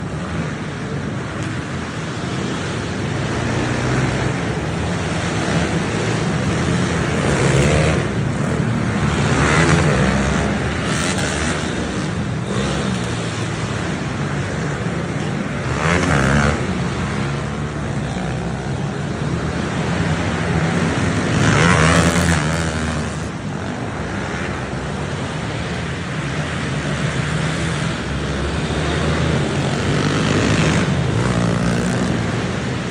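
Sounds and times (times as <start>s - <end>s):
pit bike engines revving: 0.0s - 32.9s.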